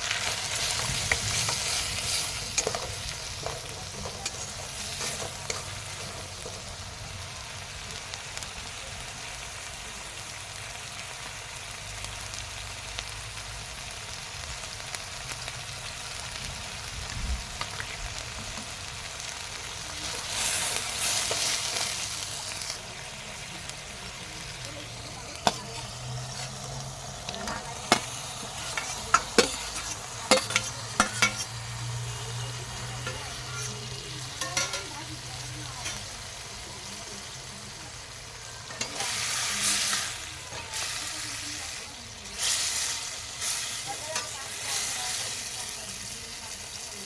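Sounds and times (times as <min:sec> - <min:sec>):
curry sizzling in a pan: 0:00.0 - 0:47.0.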